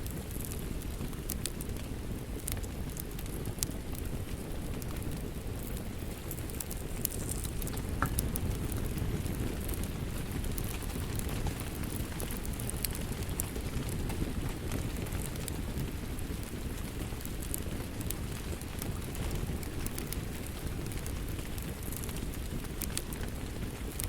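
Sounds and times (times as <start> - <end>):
rain hissing and pattering: 0.0 - 24.0
wood fire crackling and popping: 0.0 - 24.0.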